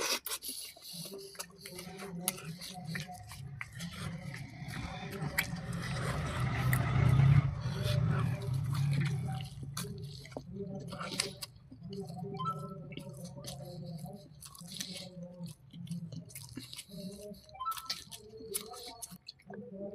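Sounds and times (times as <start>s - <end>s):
person chewing crunchy food: 0.0s - 19.9s.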